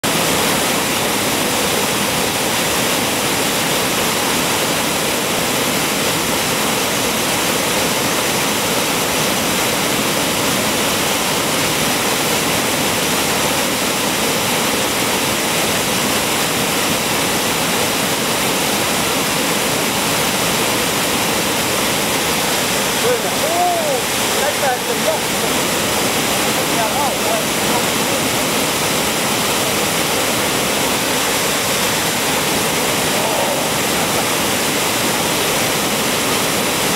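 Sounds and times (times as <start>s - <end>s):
water crashing over rocks: 0.0s - 36.9s.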